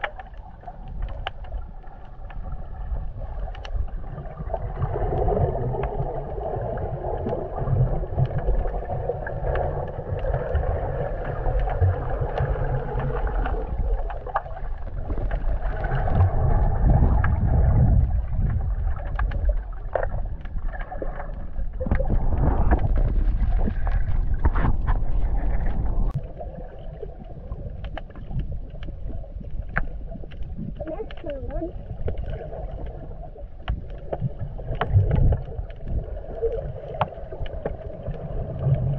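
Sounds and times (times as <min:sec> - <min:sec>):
small clicks and crackles: 0:00.0 - 0:38.9
underwater rumble of water: 0:00.0 - 0:38.9.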